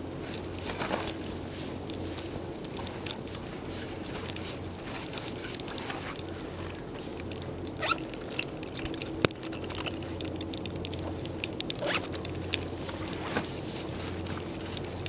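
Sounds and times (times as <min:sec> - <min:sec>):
rustling: 0:00.0 - 0:15.0
small handling clicks: 0:00.3 - 0:15.0.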